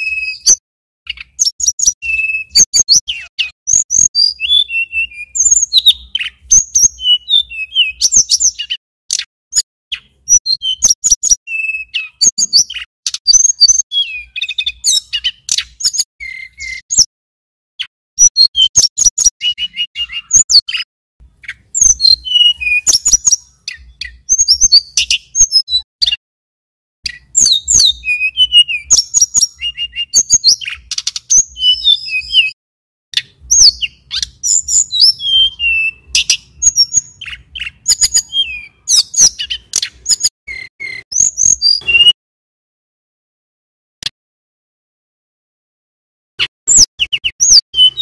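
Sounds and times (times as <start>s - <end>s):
bird singing chirps and trills: 0.0s - 17.1s, 17.8s - 26.2s, 27.0s - 32.6s, 33.2s - 42.2s, 46.4s - 48.0s.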